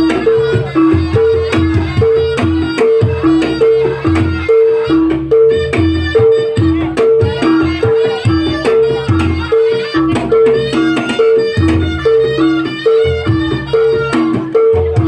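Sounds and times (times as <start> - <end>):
hand drum strokes: 0.0 - 15.0
reedy melody: 0.0 - 15.0.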